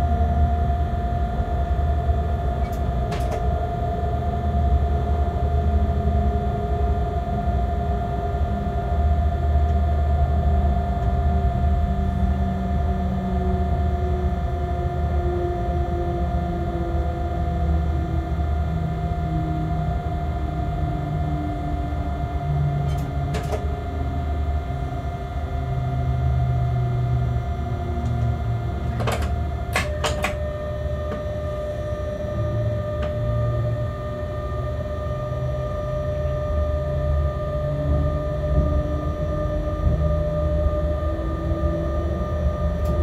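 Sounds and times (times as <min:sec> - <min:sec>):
locomotive low rumble: 0:00.0 - 0:43.0
locomotive whine: 0:00.0 - 0:43.0.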